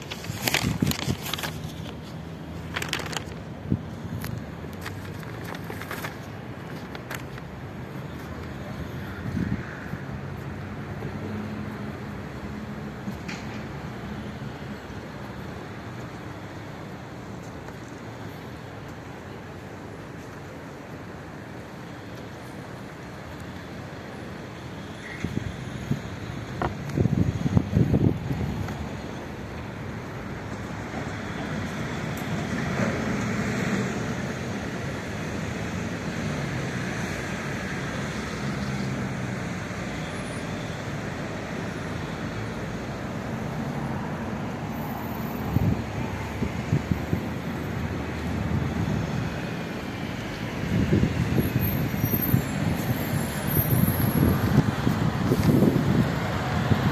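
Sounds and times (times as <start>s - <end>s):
city traffic noise: 0.0s - 56.9s.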